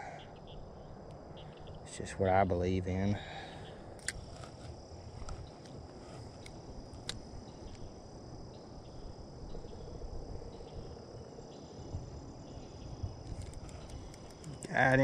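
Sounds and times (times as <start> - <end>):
insect trilling: 0.0 - 15.0.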